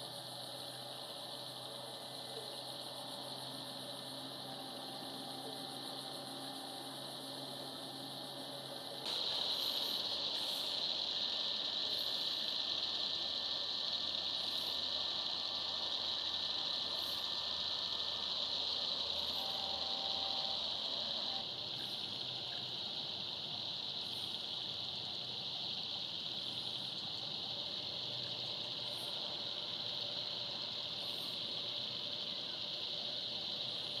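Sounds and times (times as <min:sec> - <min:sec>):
night insects chorus: 0:00.0 - 0:34.0.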